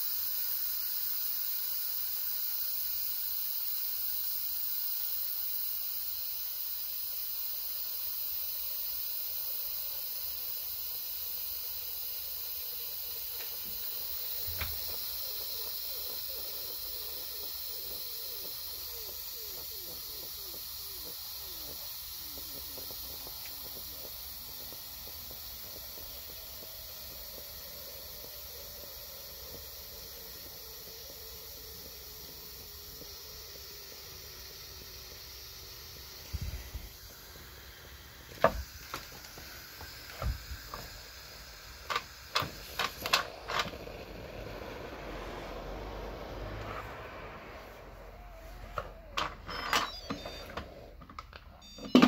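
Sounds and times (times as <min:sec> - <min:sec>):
steam hissing from valve: 0:00.0 - 0:51.0.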